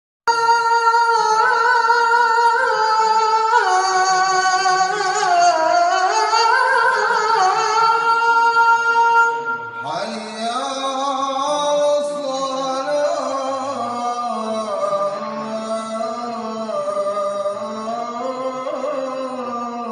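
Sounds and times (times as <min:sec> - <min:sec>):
person reciting melodically: 0:00.3 - 0:19.9.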